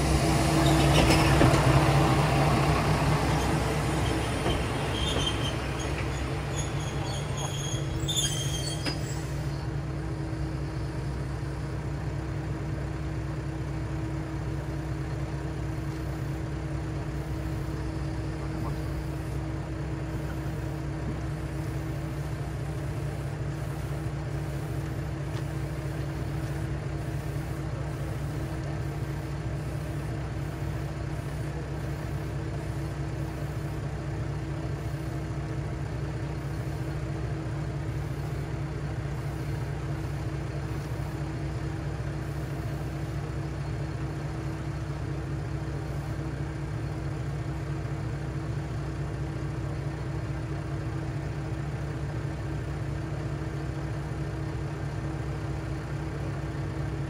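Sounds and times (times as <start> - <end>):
diesel railcar engine idling: 0.0 - 57.0.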